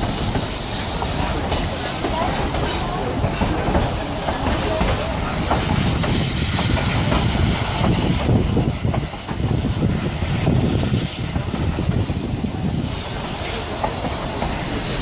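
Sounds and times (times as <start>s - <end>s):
rushing hiss: 0.0s - 15.0s
train rumbling and rattling: 0.0s - 15.0s.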